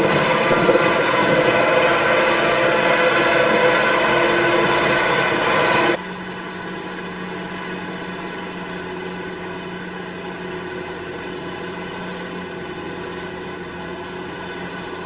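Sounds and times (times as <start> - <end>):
machine engine humming: 0.0 - 15.0.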